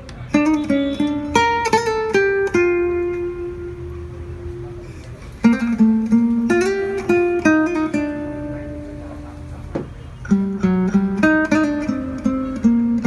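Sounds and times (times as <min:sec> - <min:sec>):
plucked guitar melody: 0:00.3 - 0:13.0.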